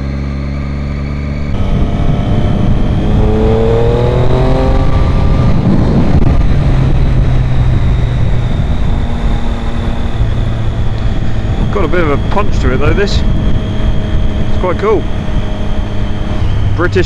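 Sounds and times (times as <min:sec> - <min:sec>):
motorcycle engine accelerating: 0:00.0 - 0:17.0
wind noise on microphone: 0:01.4 - 0:17.0.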